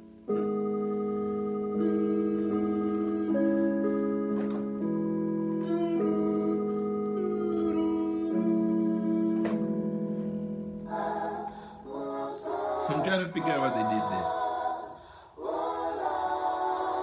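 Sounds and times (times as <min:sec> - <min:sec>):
electronic keyboard chords: 0:00.0 - 0:17.0.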